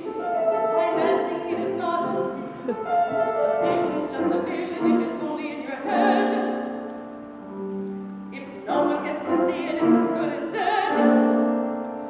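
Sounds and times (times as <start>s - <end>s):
grand piano accompaniment: 0.0s - 12.0s.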